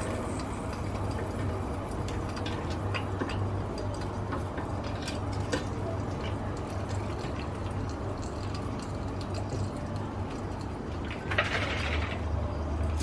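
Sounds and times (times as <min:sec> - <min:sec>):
air fryer low hum: 0:00.0 - 0:13.0.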